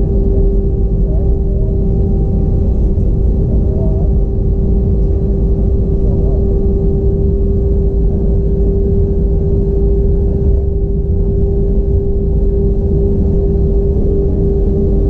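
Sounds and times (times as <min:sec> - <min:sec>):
airplane cabin rumble: 0:00.0 - 0:15.0
jet engine whining tone: 0:00.0 - 0:15.0.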